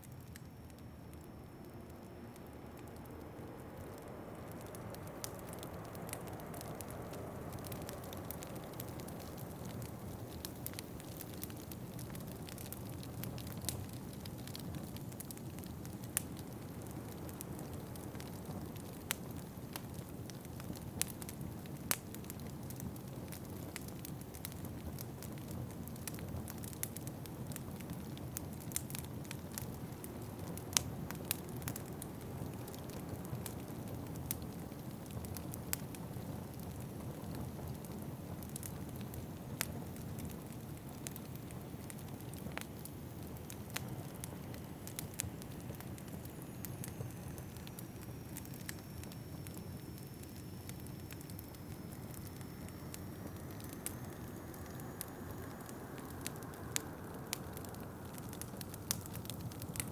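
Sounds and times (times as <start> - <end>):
wood fire crackling: 0.0 - 59.9
sharp pops of fire: 2.6 - 59.9.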